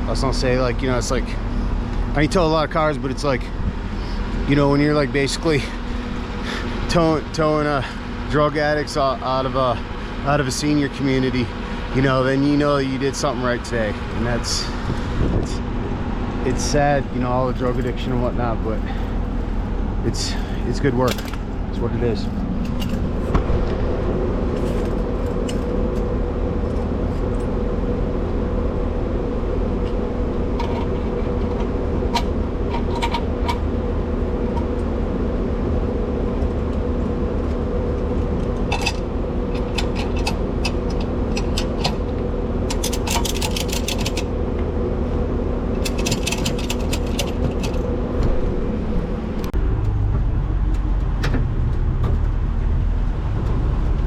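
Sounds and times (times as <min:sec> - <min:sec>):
truck engine rumbling: 0:00.0 - 0:54.0.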